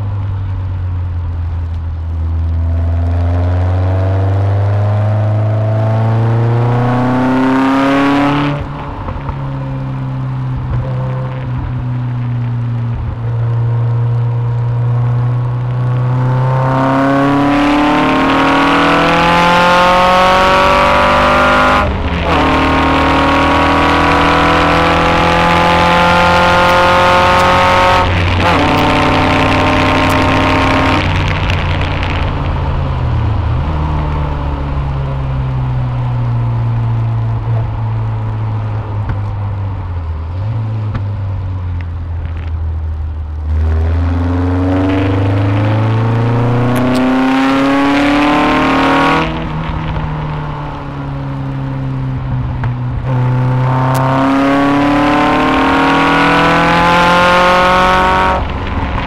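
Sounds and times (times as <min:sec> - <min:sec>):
sports car engine accelerating: 0:00.0 - 0:59.0
wind and road noise: 0:00.0 - 0:59.0.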